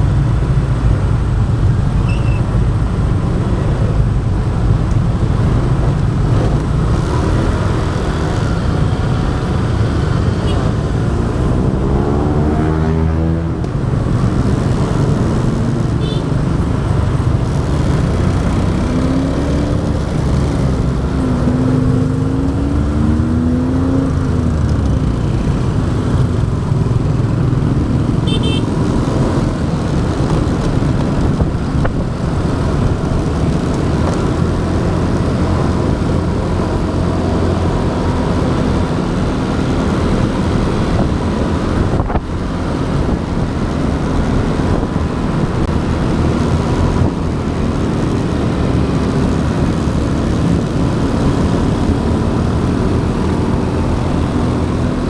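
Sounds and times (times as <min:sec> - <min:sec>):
traffic: 0:00.0 - 0:55.0.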